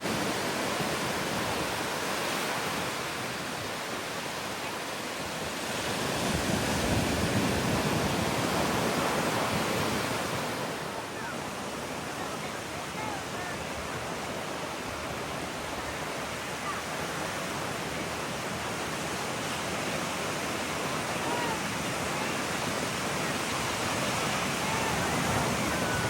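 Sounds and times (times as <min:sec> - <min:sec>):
surf washing onto beach: 0:00.0 - 0:26.0.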